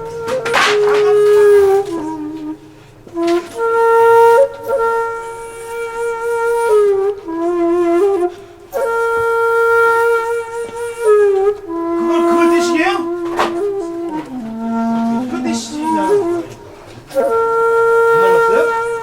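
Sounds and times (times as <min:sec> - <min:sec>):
wind instrument slow melody: 0:00.0 - 0:19.0.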